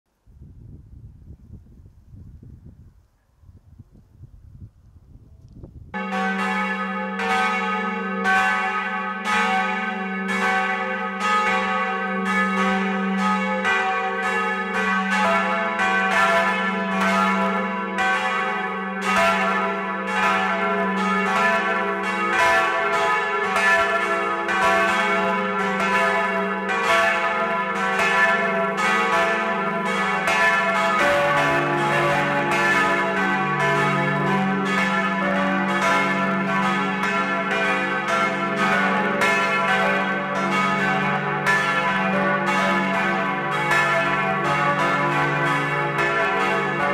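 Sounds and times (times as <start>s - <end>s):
church bells ringing: 5.9s - 46.9s.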